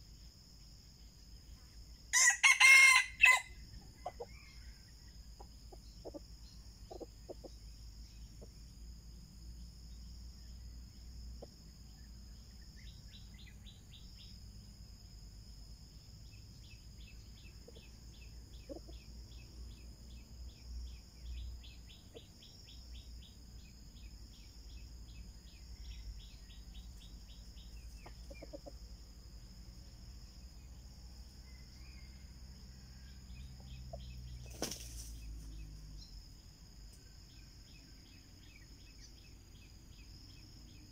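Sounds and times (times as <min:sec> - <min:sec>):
high insect drone: 0:00.0 - 0:40.9.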